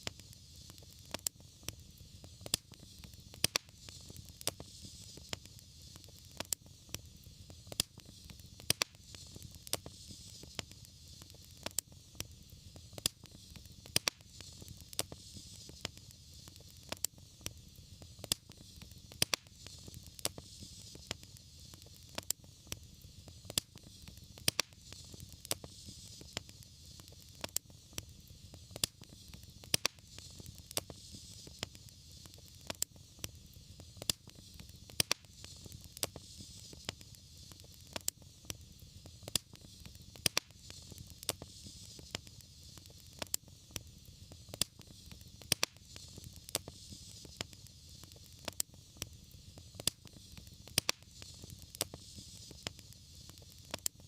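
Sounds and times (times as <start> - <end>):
fire low rumble: 0.0 - 54.0
soft hiss: 0.0 - 54.0
wood fire crackling and popping: 0.0 - 54.0.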